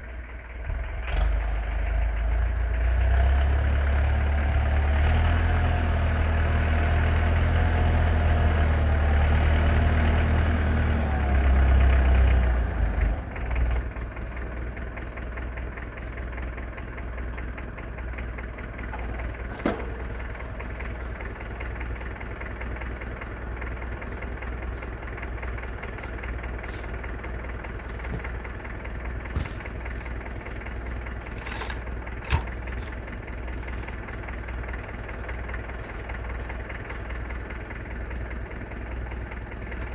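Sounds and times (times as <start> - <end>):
tractor engine: 0.0 - 39.9.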